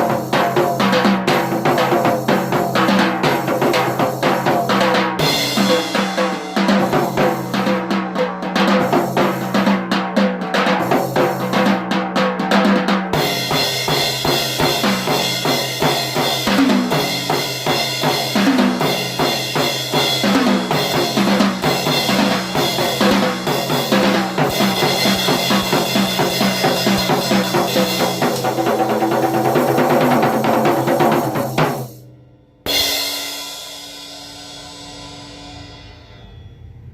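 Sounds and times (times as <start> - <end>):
drum kit played fast: 0.0 - 35.9.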